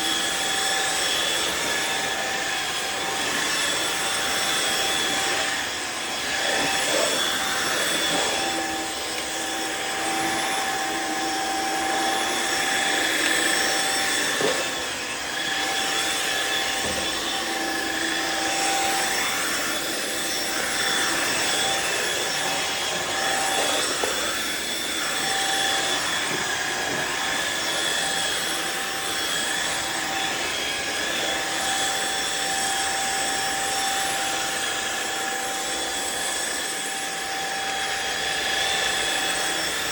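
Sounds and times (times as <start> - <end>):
floor washer motor whine: 0.0 - 39.9.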